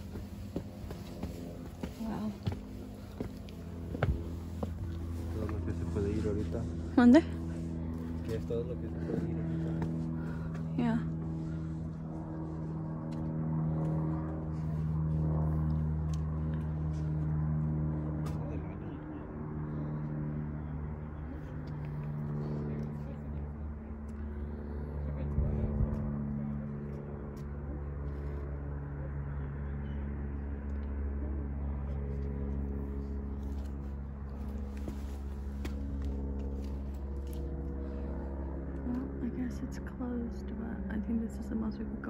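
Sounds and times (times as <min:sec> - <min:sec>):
distant engine drone: 0:00.0 - 0:42.0
steady machine hum: 0:00.0 - 0:42.0.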